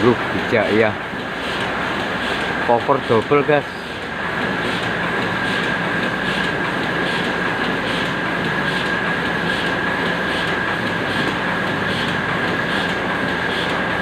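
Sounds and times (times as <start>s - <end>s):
paper cutting machine running: 0.0s - 14.0s.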